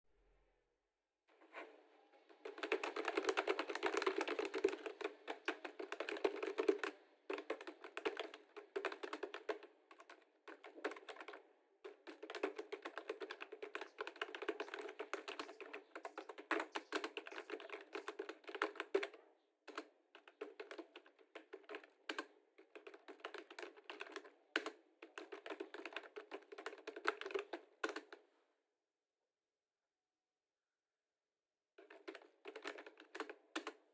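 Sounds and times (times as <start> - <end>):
fast typing on keyboard: 2.4 - 28.1, 31.8 - 33.9.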